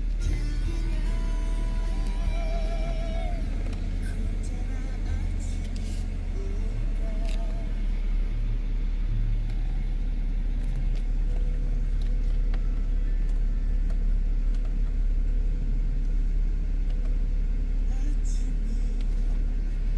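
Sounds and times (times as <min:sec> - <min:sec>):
car engine rumbling: 0:00.0 - 0:19.9.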